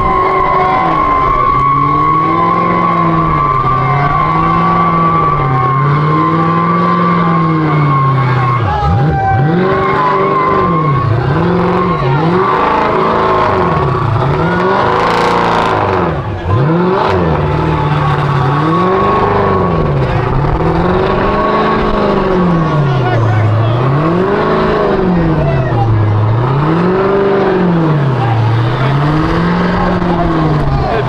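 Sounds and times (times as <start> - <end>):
car engine revving: 0.0 - 31.0
tires squealing: 0.0 - 31.0.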